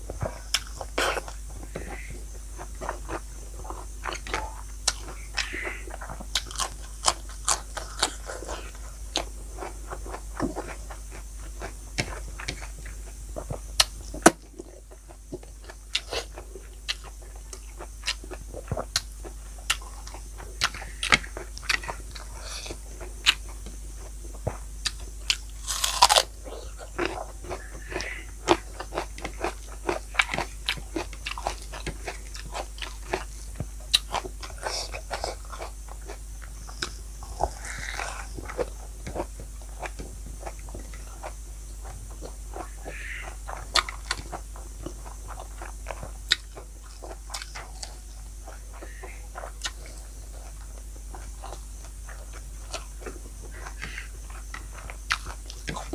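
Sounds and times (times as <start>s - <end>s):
person crunching and chewing: 0.2s - 55.9s.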